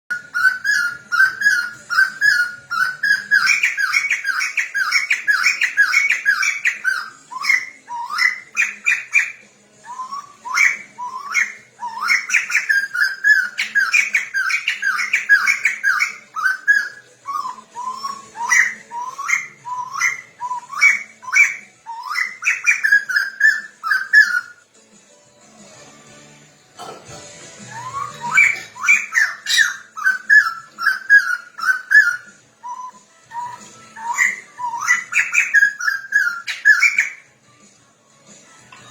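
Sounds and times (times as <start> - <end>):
songbird singing: 0.1 - 24.8, 27.5 - 37.3.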